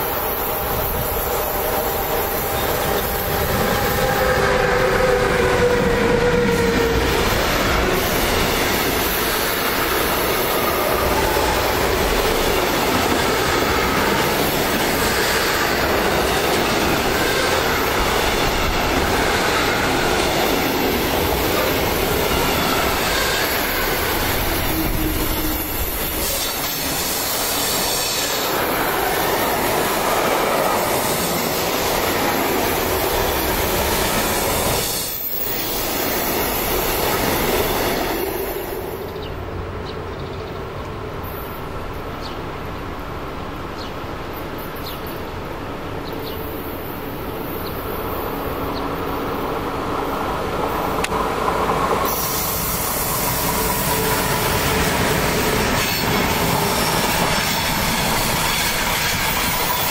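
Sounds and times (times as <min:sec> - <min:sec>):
electric locomotive whine: 0:00.0 - 0:59.9.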